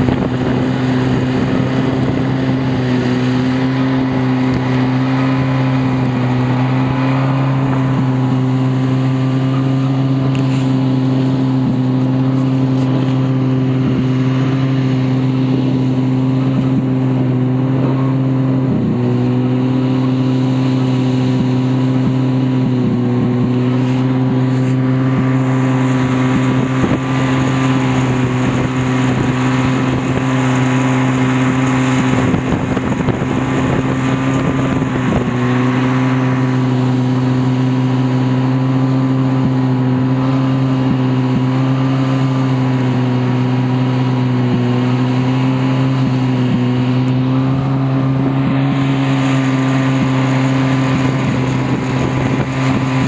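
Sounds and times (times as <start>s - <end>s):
rush of snow and wind: 0.0s - 53.0s
snowmobile engine running: 0.0s - 53.0s.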